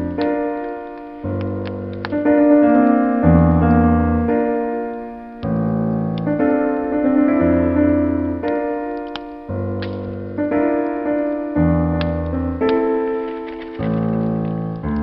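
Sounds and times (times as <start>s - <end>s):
piano playing slow chords: 0.0s - 15.0s
wood fire crackling: 0.0s - 15.0s.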